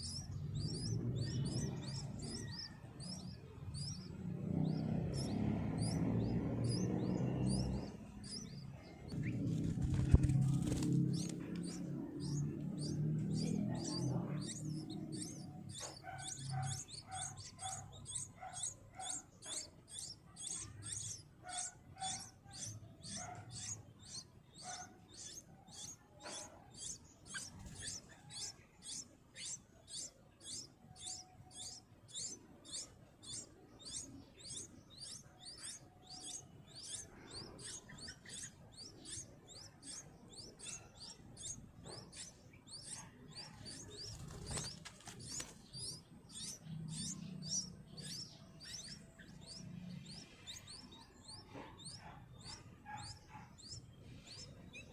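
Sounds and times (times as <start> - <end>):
high thin bird chirps: 0.0 - 4.1, 4.7 - 54.9.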